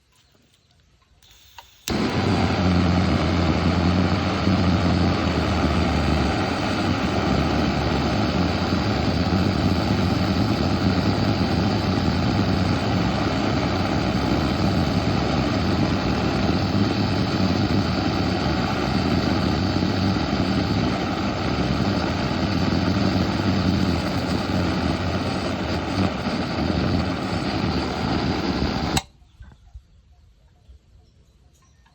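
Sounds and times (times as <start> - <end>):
pressurised burner roaring: 1.8 - 29.1.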